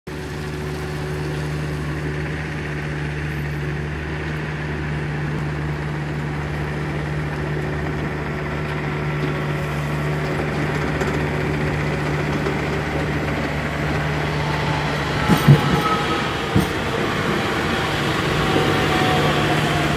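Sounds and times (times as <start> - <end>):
low engine-like hum: 0.1 - 19.9.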